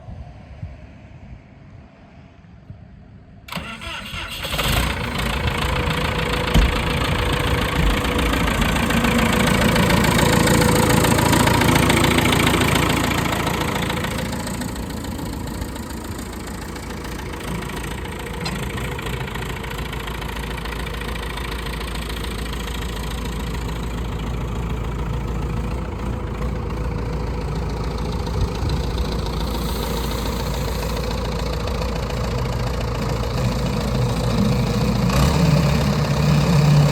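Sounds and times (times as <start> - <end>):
tractor diesel engine starting: 3.5 - 36.9.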